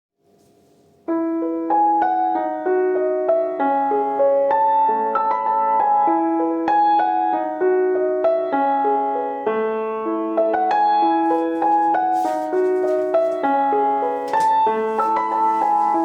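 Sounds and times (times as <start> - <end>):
soft piano music: 0.2 - 16.0.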